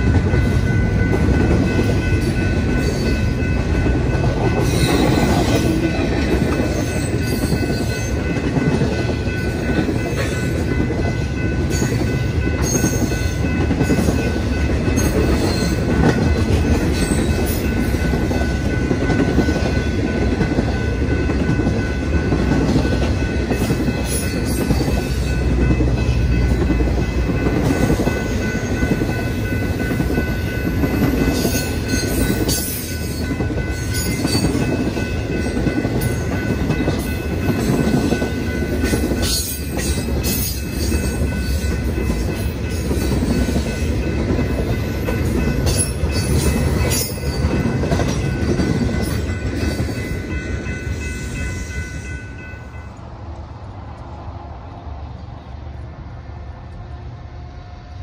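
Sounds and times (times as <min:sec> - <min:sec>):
rumble of passing railcars: 0:00.0 - 0:58.0.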